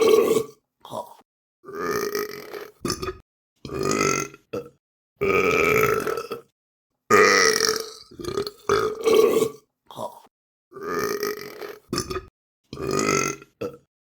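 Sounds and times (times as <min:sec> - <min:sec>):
person burping: 0:00.0 - 0:06.5, 0:07.1 - 0:13.9.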